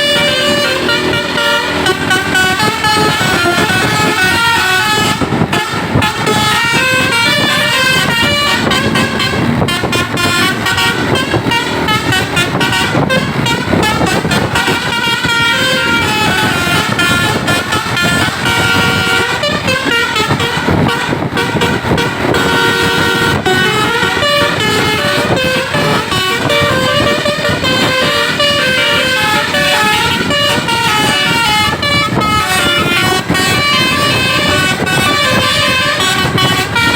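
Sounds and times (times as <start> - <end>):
bus horns playing rapid tunes: 0.0 - 36.9
low rumble of engines and traffic: 0.0 - 36.9.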